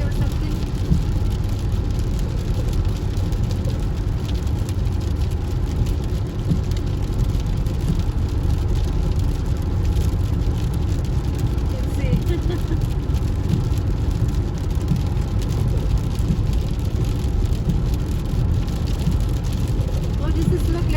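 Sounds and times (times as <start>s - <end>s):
tyres and engine rumble on wet road: 0.0s - 20.9s
faint light ticks: 0.1s - 20.9s.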